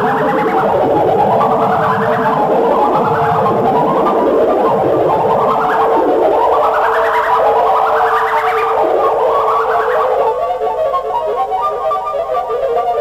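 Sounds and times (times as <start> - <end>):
synth tone sweeping upward: 0.0 - 10.4.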